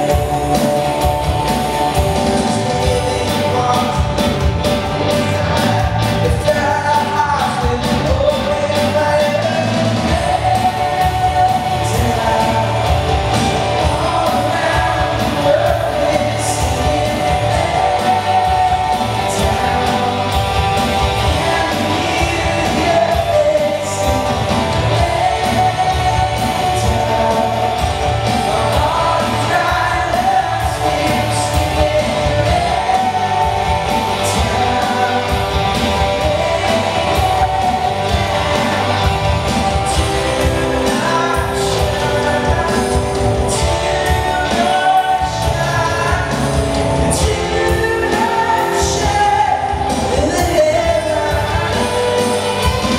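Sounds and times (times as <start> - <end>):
live band playing: 0.0 - 52.9
person singing lead vocals: 0.0 - 52.9.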